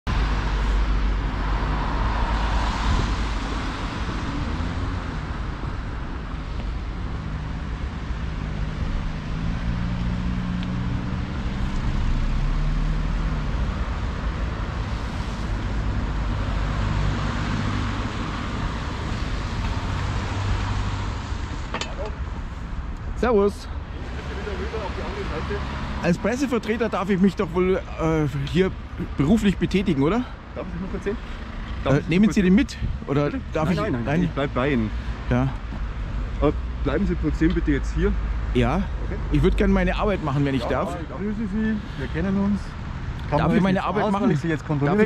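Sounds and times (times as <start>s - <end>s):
cars driving by: 0.1s - 45.0s.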